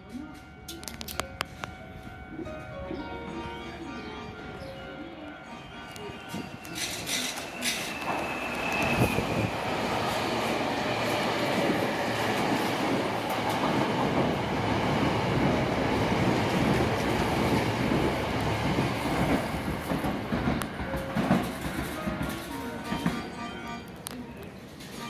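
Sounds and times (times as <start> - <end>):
electric train rumble: 1.3 - 23.9.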